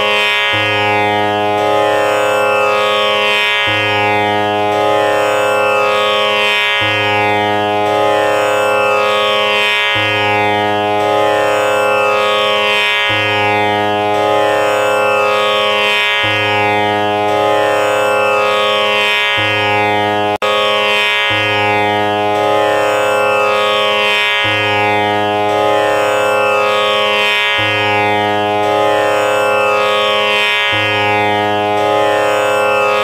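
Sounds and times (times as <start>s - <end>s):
instrumental drone music: 0.0s - 33.0s.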